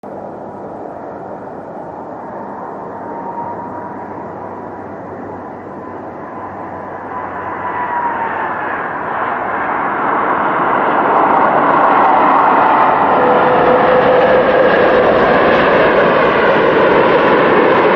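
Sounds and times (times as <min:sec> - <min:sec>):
jet engine high whine: 0:00.0 - 0:17.9
jet engines roaring: 0:00.0 - 0:17.9.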